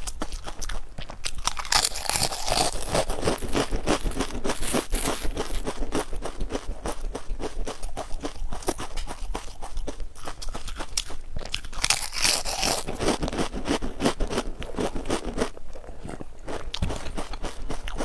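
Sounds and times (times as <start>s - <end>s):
crisps being crunched and chewed: 0.0s - 18.0s.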